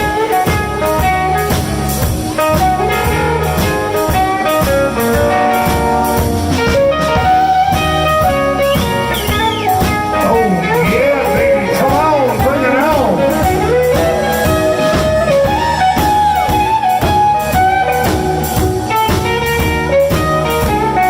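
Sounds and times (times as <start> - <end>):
blues band playing: 0.0 - 21.0.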